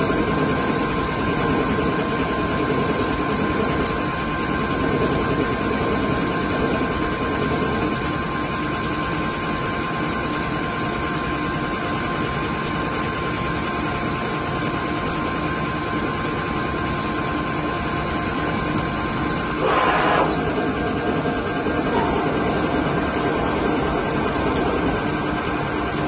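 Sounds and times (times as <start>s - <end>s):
lathe running with high whine: 0.0s - 26.0s.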